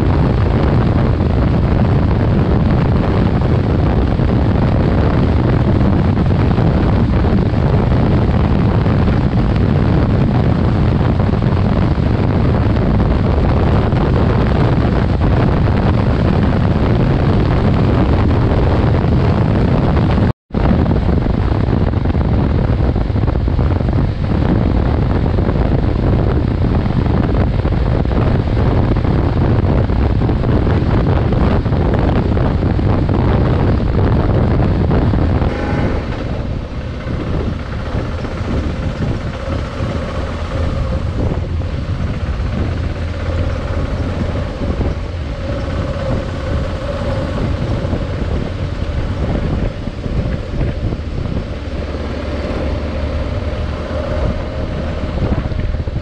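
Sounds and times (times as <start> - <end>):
motorcycle engine: 0.0 - 56.0
road noise: 0.0 - 56.0
wind rushing over microphone: 0.0 - 56.0.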